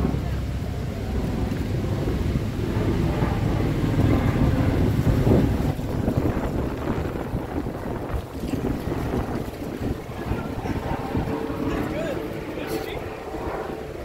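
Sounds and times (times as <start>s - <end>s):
city traffic rumble: 0.0s - 14.0s
wind buffeting microphone: 0.0s - 14.0s.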